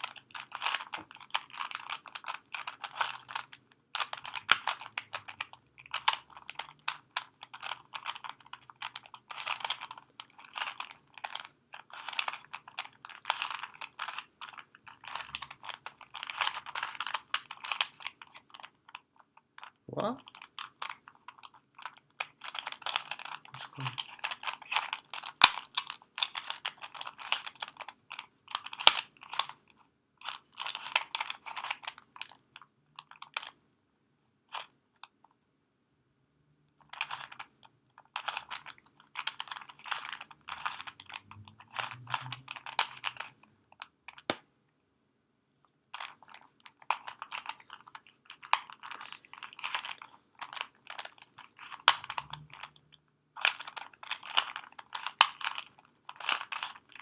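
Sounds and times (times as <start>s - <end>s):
plastic puzzle cube clicking: 0.0s - 29.6s, 30.2s - 33.6s, 36.9s - 44.4s, 46.0s - 52.8s, 53.4s - 57.0s.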